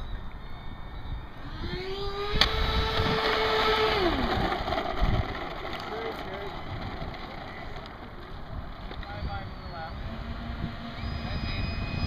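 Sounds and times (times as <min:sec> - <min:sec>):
wind buffeting microphone: 0:00.0 - 0:12.0
electric motor whining: 0:00.1 - 0:12.0.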